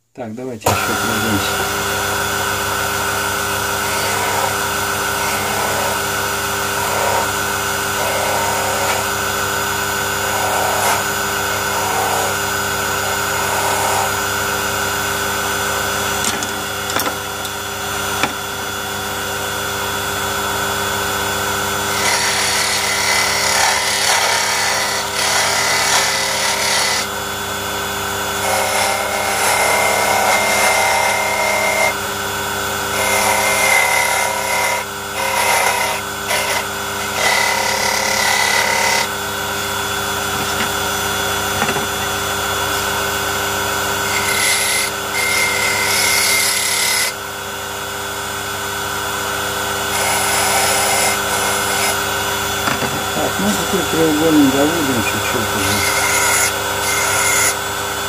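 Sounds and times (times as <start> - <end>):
electric hand tool running: 0.6 - 58.0
tool grinding into wood: 0.7 - 18.6, 21.2 - 27.2, 28.2 - 32.0, 32.9 - 43.0, 43.6 - 47.2, 49.7 - 57.8.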